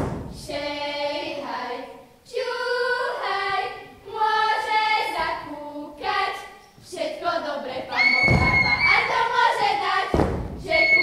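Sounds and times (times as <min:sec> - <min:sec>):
girls singing folk song: 0:00.0 - 0:11.0.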